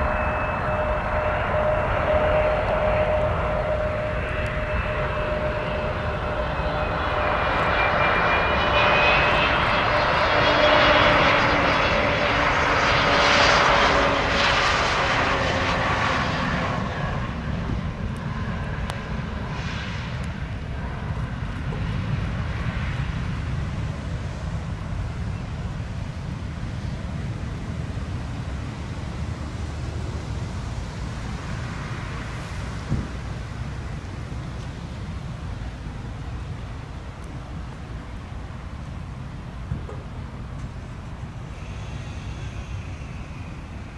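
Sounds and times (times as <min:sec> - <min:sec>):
jet engines whining: 0:00.0 - 0:43.9
low rumble of landing jet: 0:00.0 - 0:43.9.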